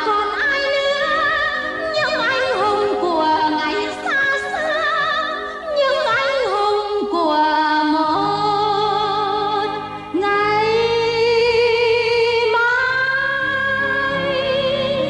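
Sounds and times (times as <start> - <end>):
instrumental backing: 0.0 - 15.0
woman singing with vibrato: 0.0 - 15.0.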